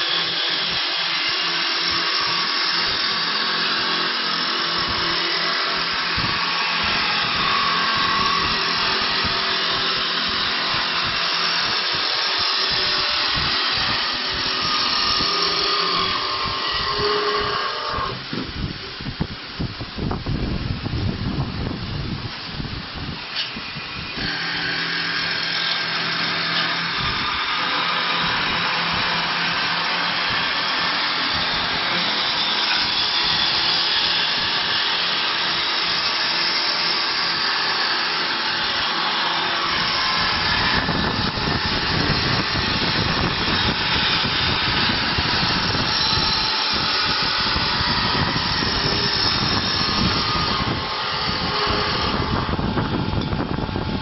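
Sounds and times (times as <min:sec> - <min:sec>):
wood lathe cutting: 0:00.0 - 0:19.6, 0:23.0 - 0:54.0
wood shavings hissing: 0:00.0 - 0:19.6, 0:23.0 - 0:54.0.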